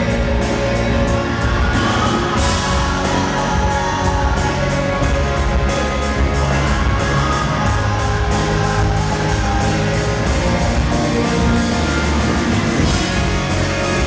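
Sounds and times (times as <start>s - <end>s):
drum cymbal beats: 0.0s - 14.0s
rock band playing live: 0.0s - 14.0s.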